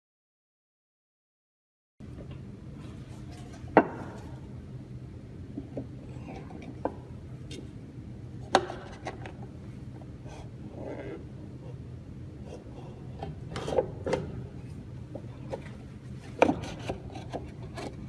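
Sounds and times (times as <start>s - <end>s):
steady low hum: 2.0s - 18.0s.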